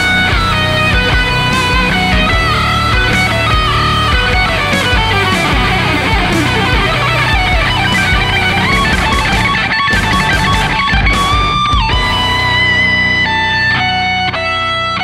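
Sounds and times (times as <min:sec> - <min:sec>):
electric guitar solo: 0:00.0 - 0:15.0.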